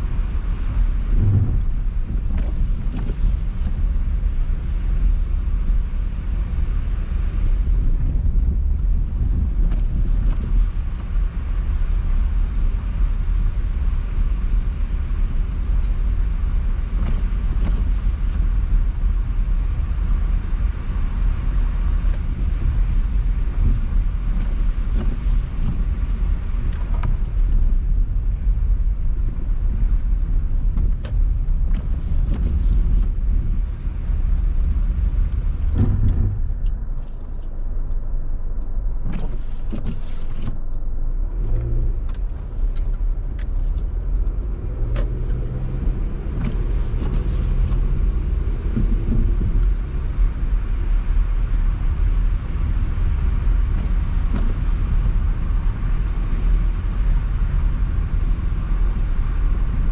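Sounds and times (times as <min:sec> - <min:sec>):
car driving on road: 0:00.0 - 0:59.9.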